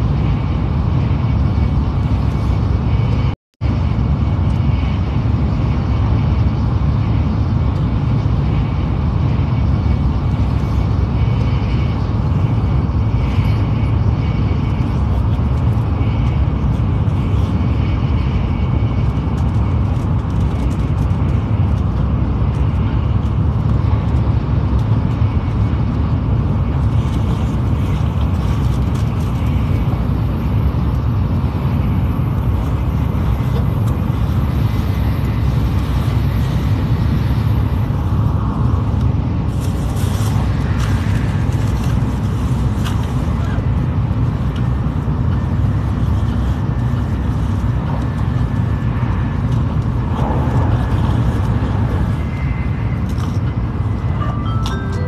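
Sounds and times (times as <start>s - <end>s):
train wheels and air rumbling: 0.0s - 55.0s.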